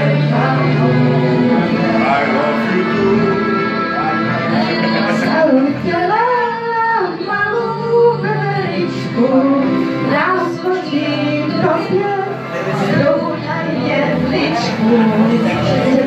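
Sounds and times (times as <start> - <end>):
recorded backing track: 0.0 - 16.0
women singing into a microphone: 0.0 - 16.0.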